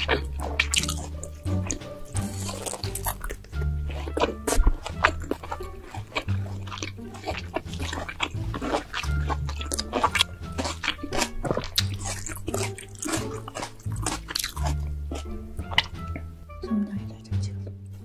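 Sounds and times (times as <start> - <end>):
close chewing with crunches: 0.0 - 16.3
background music with bass line: 0.0 - 18.0.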